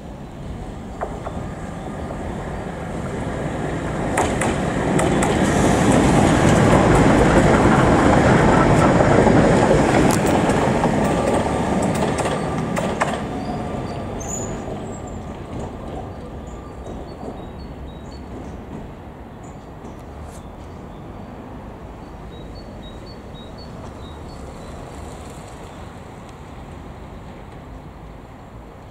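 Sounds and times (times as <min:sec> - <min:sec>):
tram wheels rumbling on rails: 0:00.0 - 0:28.9.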